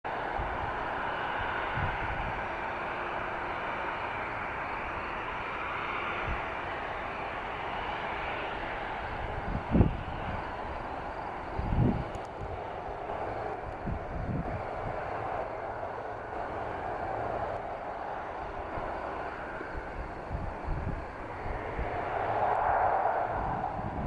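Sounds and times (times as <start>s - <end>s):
jet engines roaring: 0.1s - 24.0s.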